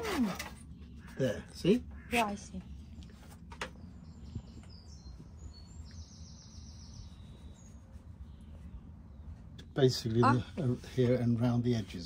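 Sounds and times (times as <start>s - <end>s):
low outdoor rumble: 0.3s - 12.0s
small birds chirping: 0.4s - 12.0s.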